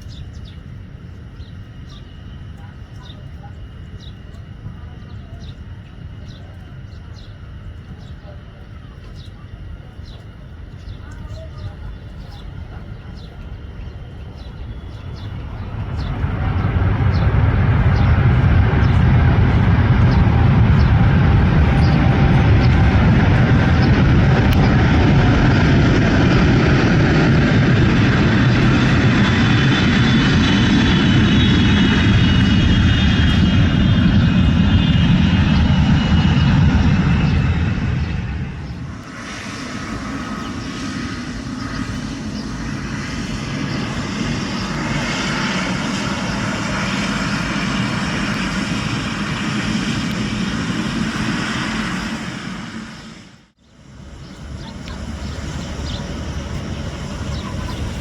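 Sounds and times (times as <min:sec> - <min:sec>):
high fan whine: 0:00.0 - 0:58.0
jet engine roar: 0:00.0 - 0:58.0.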